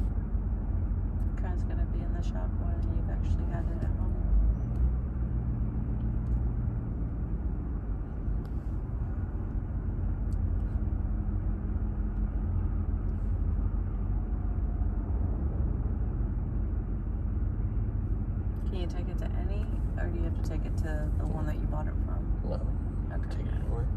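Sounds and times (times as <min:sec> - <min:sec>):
road noise: 0:00.0 - 0:23.9
truck engine rumble: 0:00.0 - 0:23.9.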